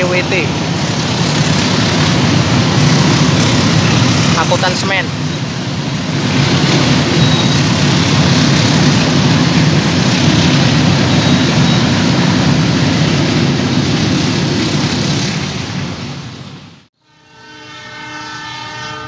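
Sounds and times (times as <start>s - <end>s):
freight train wagons rumbling: 0.0s - 16.9s.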